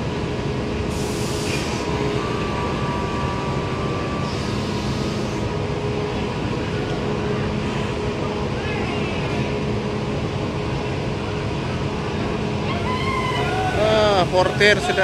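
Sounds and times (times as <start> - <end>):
ferry machinery rumble and hum: 0.0 - 15.0.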